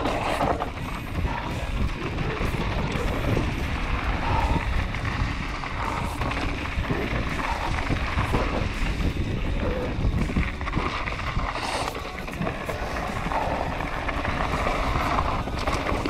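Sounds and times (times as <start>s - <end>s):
mountain bike rumbling on dirt: 0.0s - 16.0s
wind noise on microphone: 0.0s - 16.0s.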